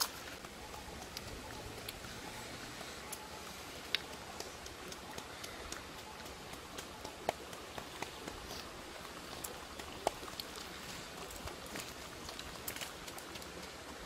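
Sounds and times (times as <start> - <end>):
shallow stream rushing: 0.0 - 14.0.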